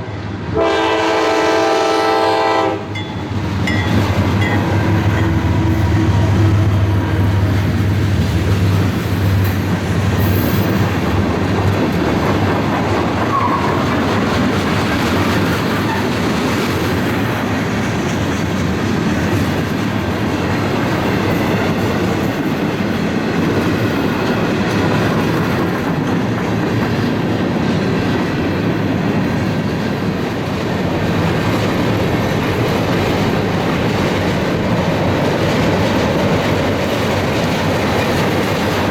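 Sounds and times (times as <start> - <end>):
diesel locomotive drone: 0.0 - 38.9
train cars rolling on rails: 0.0 - 38.9.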